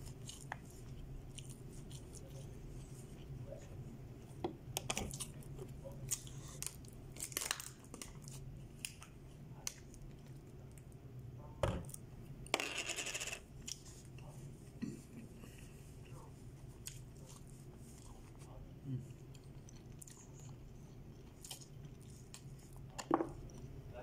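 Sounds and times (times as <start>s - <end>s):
soft chewing: 0.0s - 12.4s, 13.5s - 24.0s
steady low hum: 0.0s - 24.0s.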